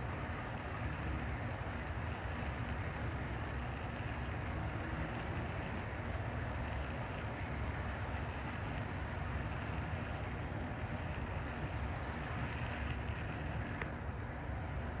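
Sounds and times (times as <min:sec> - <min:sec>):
model train rumbling: 0:00.0 - 0:15.0.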